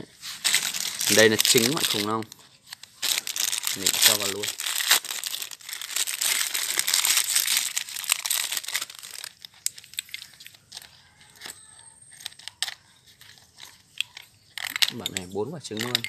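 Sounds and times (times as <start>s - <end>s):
plastic crinkling: 0.0s - 16.0s
plastic toy clicks and knocks: 0.6s - 16.0s.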